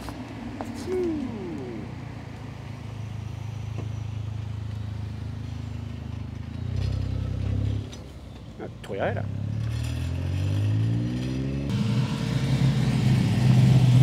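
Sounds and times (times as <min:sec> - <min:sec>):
car engine rumbling past: 0:00.6 - 0:14.0.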